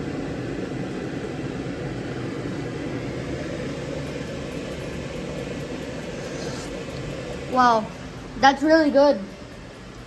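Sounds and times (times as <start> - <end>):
kitchen hum and rumble: 0.0 - 10.0.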